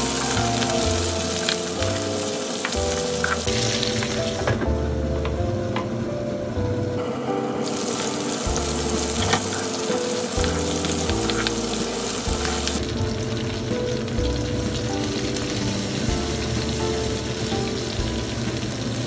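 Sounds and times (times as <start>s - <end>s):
food sizzling in a pan: 0.0s - 4.4s, 7.0s - 19.0s
soft background music: 0.0s - 19.0s.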